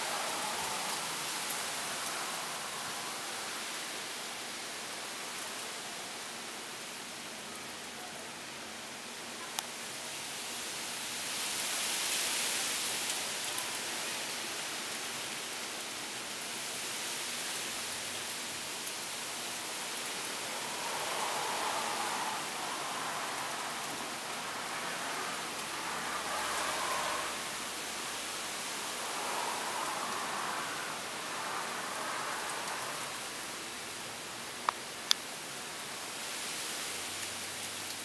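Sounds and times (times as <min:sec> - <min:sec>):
heavy rain hiss: 0:00.0 - 0:38.0.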